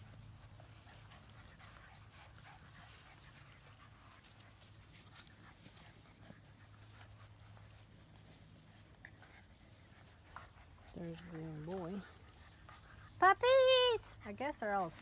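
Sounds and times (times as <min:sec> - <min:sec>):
puppies panting: 0:00.0 - 0:15.0.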